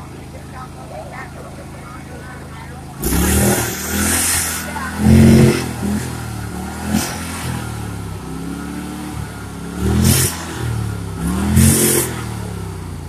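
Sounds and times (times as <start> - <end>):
lawn mower engine revving: 0.0 - 13.0.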